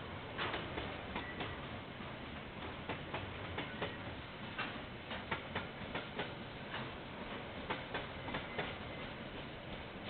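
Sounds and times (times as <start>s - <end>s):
train wheels clicking: 0.2s - 10.0s.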